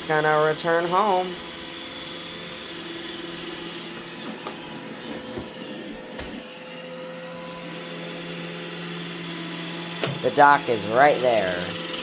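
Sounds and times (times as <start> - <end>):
robot vacuum motor humming: 0.0 - 12.0.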